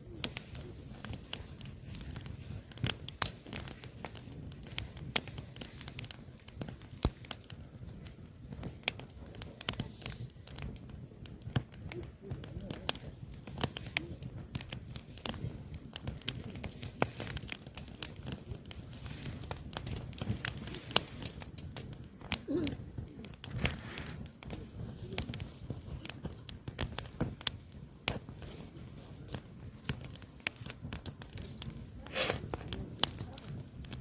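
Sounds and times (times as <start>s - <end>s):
firewood crackling and popping: 0.0s - 34.0s.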